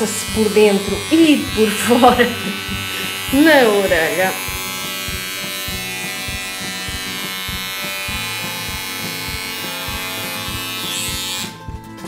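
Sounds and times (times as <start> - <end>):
electric hair clipper buzzing: 0.0 - 11.9.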